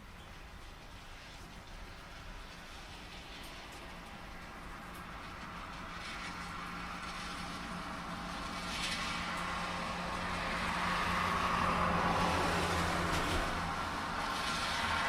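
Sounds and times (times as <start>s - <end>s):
rain: 0.0s - 15.0s
tyres hissing on wet road: 0.0s - 15.0s
low engine hum: 1.6s - 15.0s.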